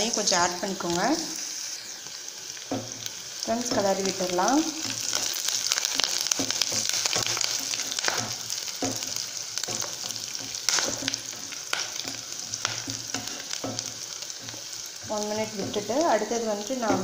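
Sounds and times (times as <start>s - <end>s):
onions sizzling in hot oil: 0.0s - 17.0s
spatula scraping and knocking pan: 2.6s - 4.1s, 4.8s - 17.0s.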